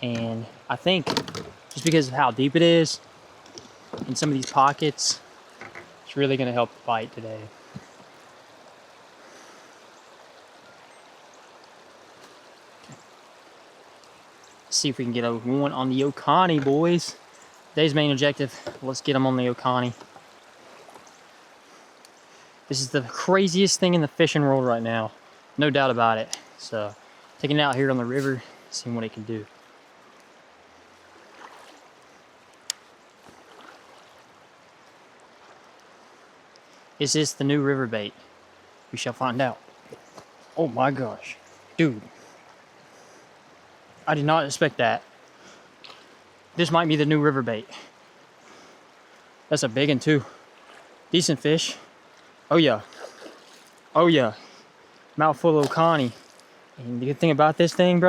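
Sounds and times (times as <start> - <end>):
flowing river water: 0.0 - 58.0.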